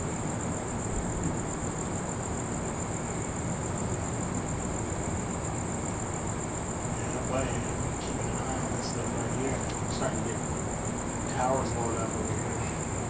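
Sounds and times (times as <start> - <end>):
crickets trilling: 0.0 - 13.0
low background noise: 0.0 - 13.0.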